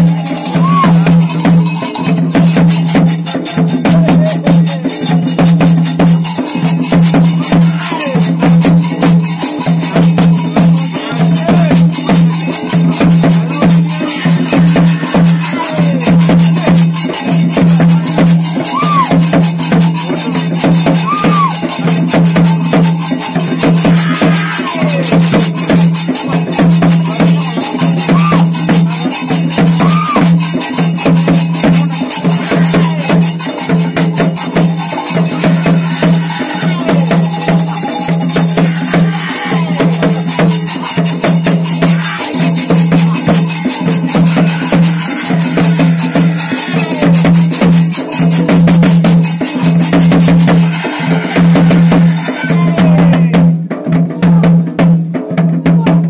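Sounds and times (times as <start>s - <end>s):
cymbals: 0.0s - 53.7s
fast drumming: 0.0s - 56.0s.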